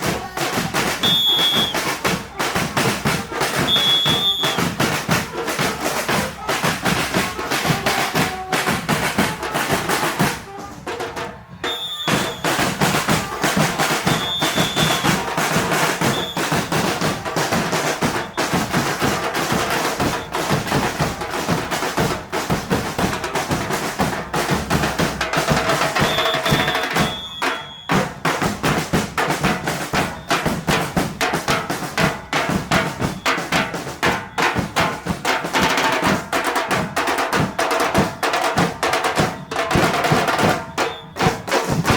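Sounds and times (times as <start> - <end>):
bass drums: 0.0 - 27.3, 28.0 - 41.9
snare drum rolls: 0.0 - 41.9.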